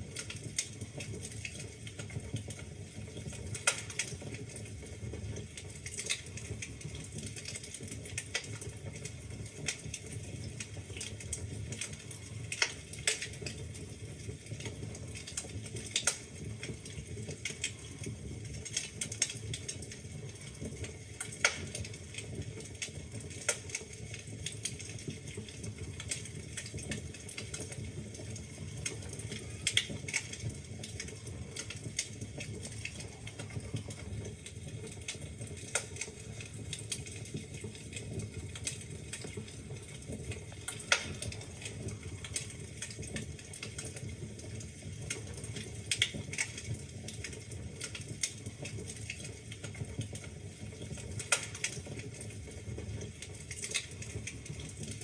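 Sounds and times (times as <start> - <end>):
flames rumbling: 0.0 - 55.0
logs crackling and popping: 0.0 - 55.0.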